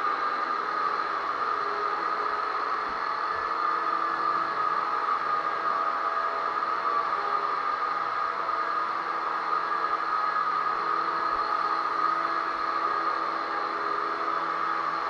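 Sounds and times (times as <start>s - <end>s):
electric drywall sander running: 0.0s - 15.0s.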